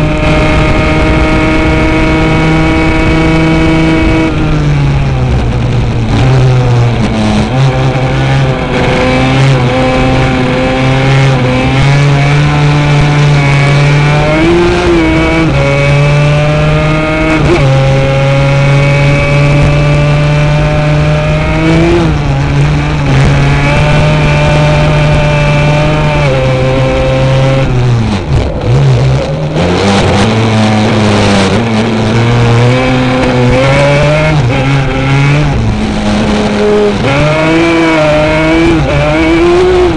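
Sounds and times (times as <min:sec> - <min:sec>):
quad engine racing: 0:00.0 - 0:39.9.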